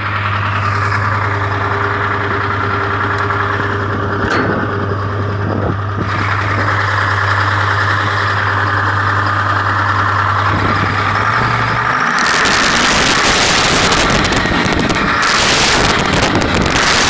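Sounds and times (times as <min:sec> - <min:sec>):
diesel engine idling: 0:00.0 - 0:17.0
loud crackling exhaust rasp: 0:00.0 - 0:17.0.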